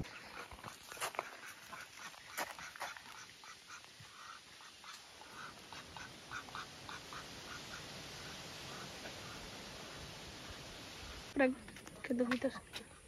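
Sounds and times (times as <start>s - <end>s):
ducks quacking: 0.0s - 11.4s.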